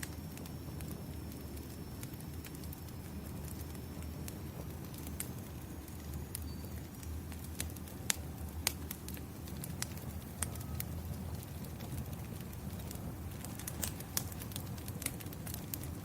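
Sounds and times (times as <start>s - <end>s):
fire popping and snapping: 0.0s - 16.0s
low steady rumble: 0.0s - 16.0s
wood fire crackling: 0.0s - 16.0s.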